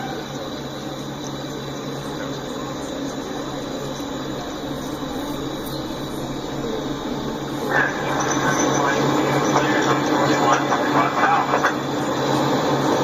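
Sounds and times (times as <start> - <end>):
diesel locomotives humming: 0.0 - 13.0
noisy rumble: 0.0 - 13.0.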